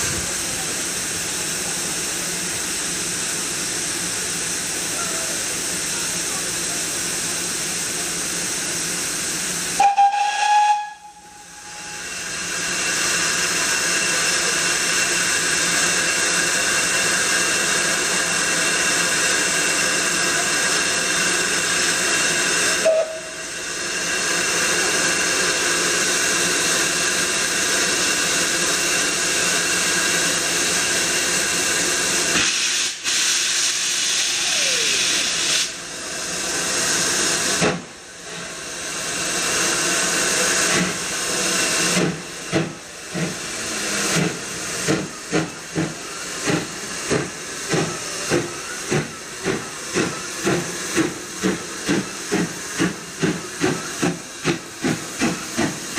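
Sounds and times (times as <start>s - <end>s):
steam locomotive exhaust chuffs: 0.0s - 55.9s
steam locomotive hissing steam: 0.0s - 55.9s.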